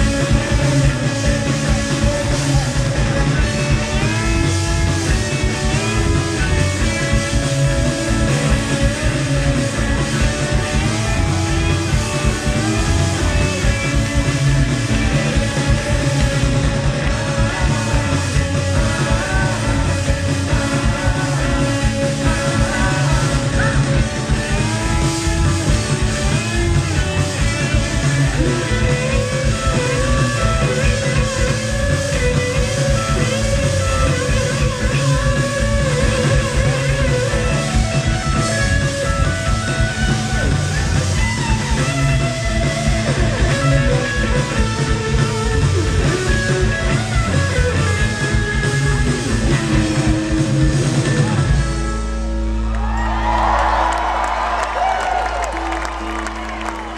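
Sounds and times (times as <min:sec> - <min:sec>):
live rock band playing: 0:00.0 - 0:56.9.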